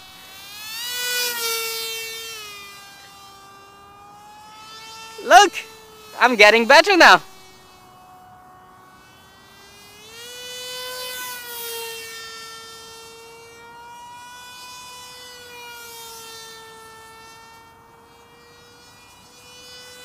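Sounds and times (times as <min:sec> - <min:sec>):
electric motor propeller whining: 0:00.0 - 0:20.0.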